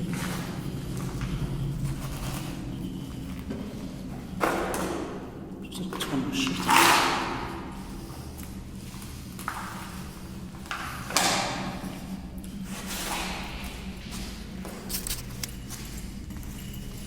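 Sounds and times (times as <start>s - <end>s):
footsteps in loose rubbish: 0.0s - 5.0s, 7.8s - 17.0s
low steady hum: 0.0s - 17.0s.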